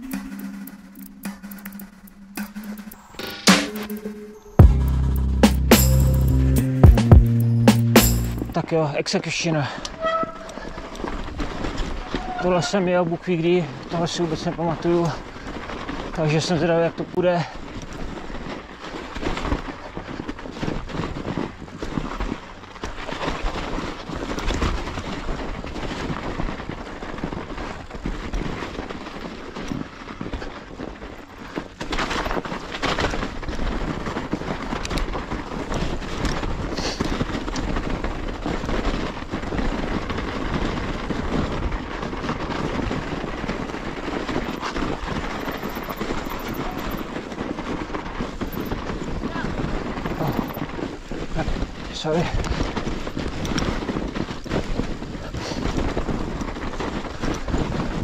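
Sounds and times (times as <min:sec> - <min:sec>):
bike tyres through snow: 0:08.4 - 0:58.0
bike rattling and knocking: 0:09.7 - 0:58.0.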